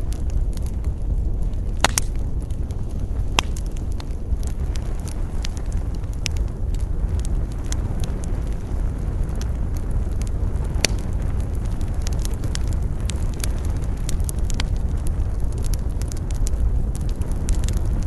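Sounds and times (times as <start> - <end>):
campfire crackling and popping: 0.0 - 18.0
wind buffeting microphone: 0.0 - 18.0.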